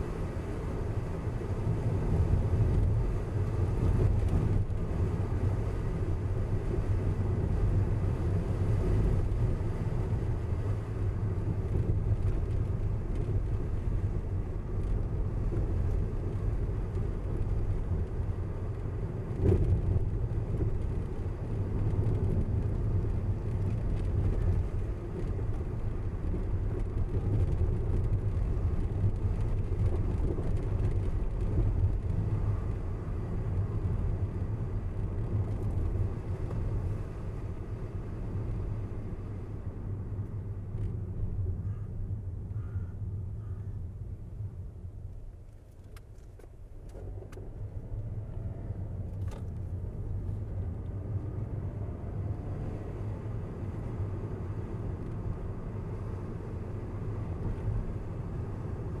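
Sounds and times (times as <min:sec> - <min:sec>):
car tyres and engine rumble: 0:00.0 - 0:59.0.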